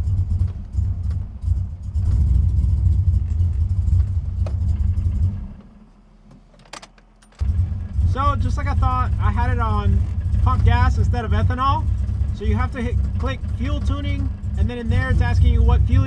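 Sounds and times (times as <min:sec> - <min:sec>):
engine running unevenly: 0:00.0 - 0:06.5, 0:07.3 - 0:16.0.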